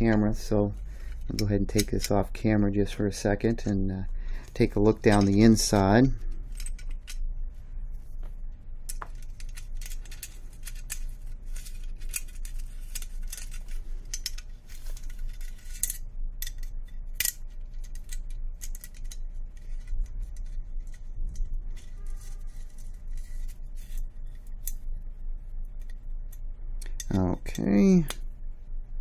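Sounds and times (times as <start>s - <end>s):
metallic clicks and scrapes: 0.0s - 7.3s, 8.8s - 28.3s.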